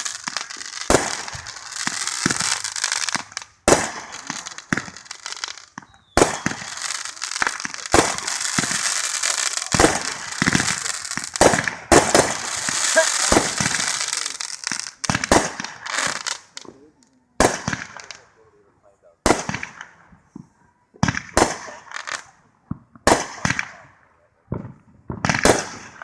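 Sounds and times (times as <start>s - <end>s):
fireworks banging and crackling: 0.0s - 18.5s, 19.2s - 26.0s.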